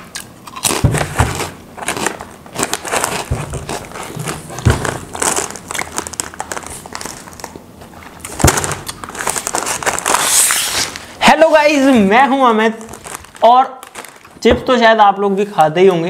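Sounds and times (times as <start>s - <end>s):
chip packet crinkling: 0.0s - 11.1s, 11.8s - 14.5s.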